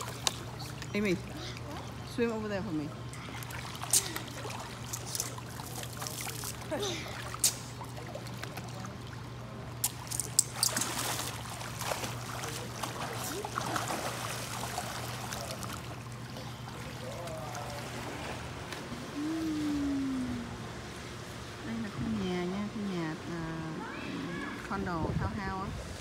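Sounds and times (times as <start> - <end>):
pool water splashing: 0.0 - 26.0
steady low hum: 0.0 - 26.0.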